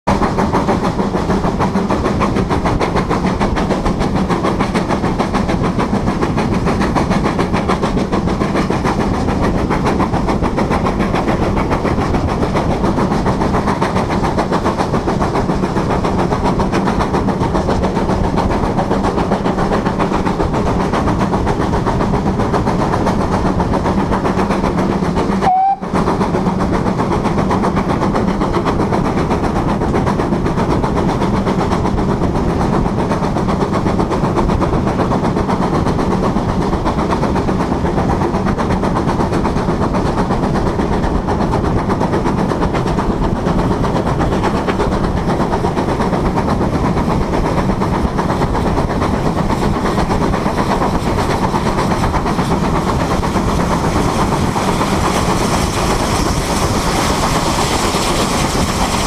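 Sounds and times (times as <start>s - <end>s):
steam locomotive running: 0.1s - 59.0s
wind on microphone: 0.2s - 59.0s.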